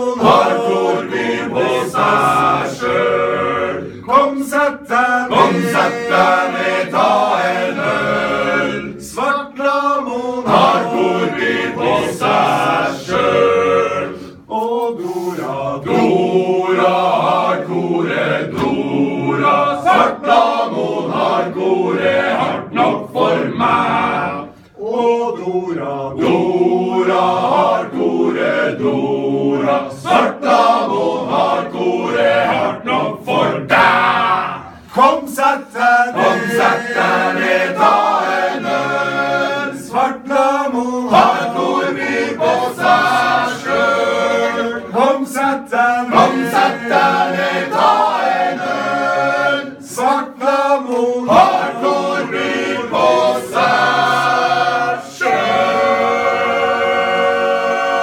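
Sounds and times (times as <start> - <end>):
men's choir singing a cappella: 0.0 - 58.0.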